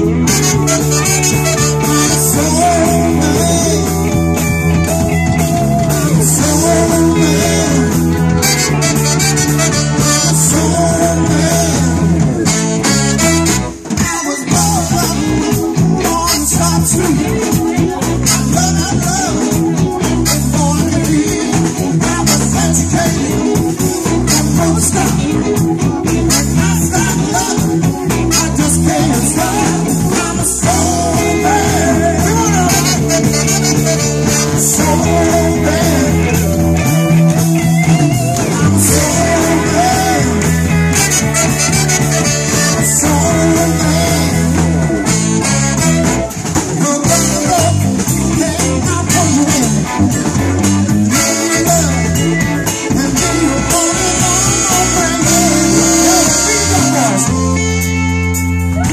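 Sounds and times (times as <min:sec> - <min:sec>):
horn section playing: 0:00.0 - 0:17.2, 0:26.3 - 0:58.4
drums: 0:00.0 - 0:58.9
repeating bass line: 0:00.0 - 0:58.9.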